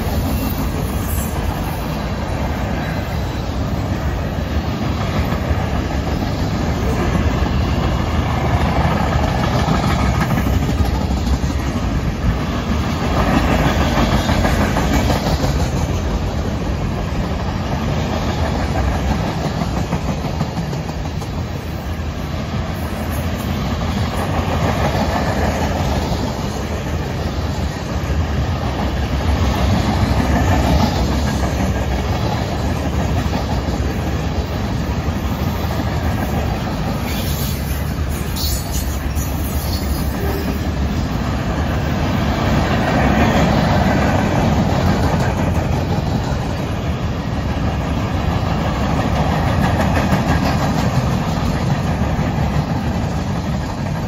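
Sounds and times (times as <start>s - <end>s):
freight train wheels clattering on rails: 0.0s - 54.0s.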